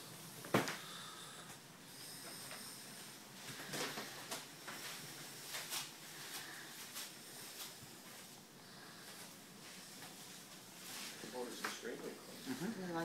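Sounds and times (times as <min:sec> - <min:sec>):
low steady hiss: 0:00.0 - 0:13.0
faint rustles and clicks: 0:01.5 - 0:12.8.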